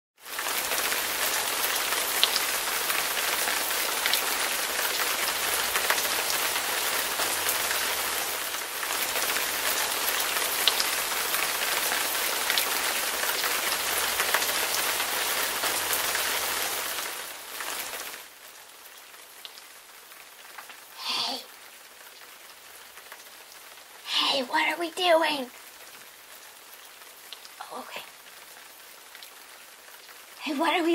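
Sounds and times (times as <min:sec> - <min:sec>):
heavy rain pouring: 0:00.2 - 0:30.9.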